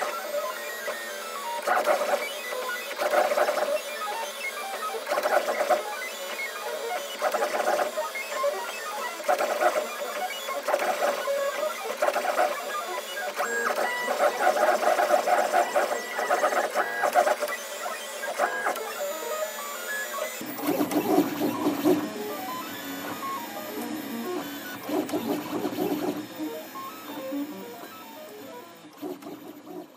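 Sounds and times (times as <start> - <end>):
printer stepper motors whirring: 0.0 - 29.9.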